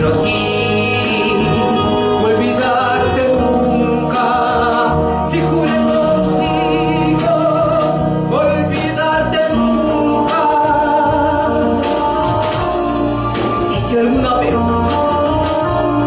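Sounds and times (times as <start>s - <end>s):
conga drums: 0.0s - 16.0s
keyboard: 0.0s - 16.0s
man singing ballad: 0.0s - 16.0s.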